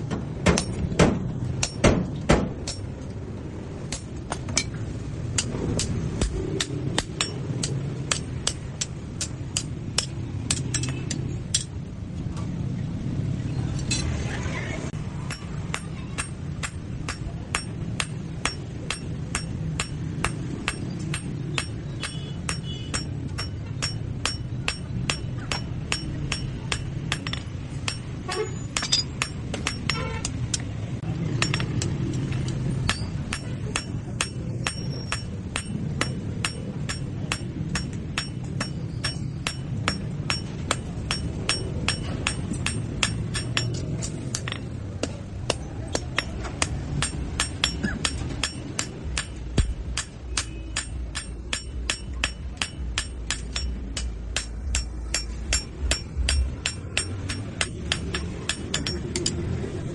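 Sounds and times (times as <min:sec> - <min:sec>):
hammer striking steel anvil: 0:00.1 - 0:03.0, 0:05.4 - 0:11.8, 0:15.2 - 0:59.8.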